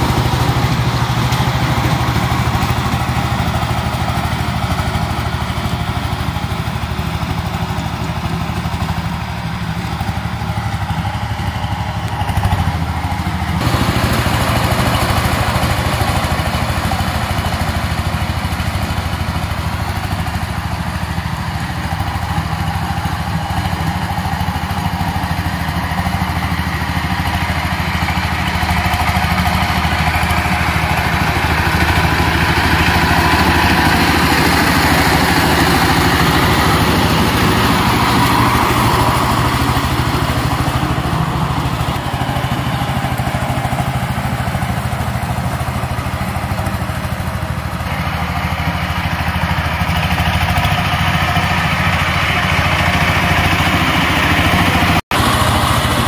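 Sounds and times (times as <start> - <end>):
diesel tiller engine running: 0.0 - 56.0
rotary tiller churning soil: 0.0 - 56.0.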